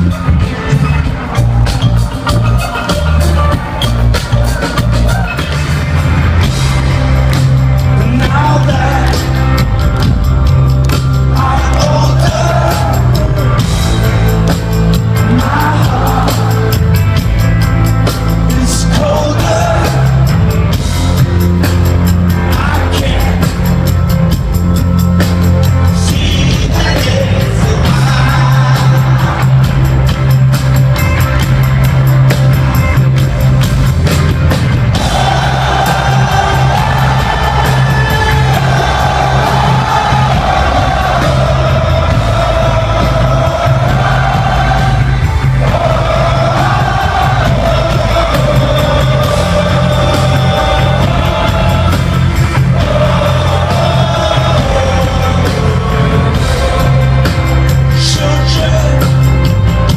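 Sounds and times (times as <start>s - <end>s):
loud rock music with singer: 0.0s - 59.9s.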